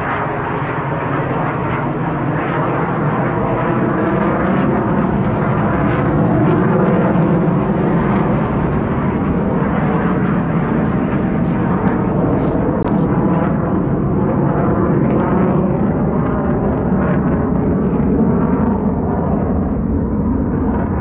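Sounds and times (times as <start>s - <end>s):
steady rumbling noise: 0.0s - 21.0s.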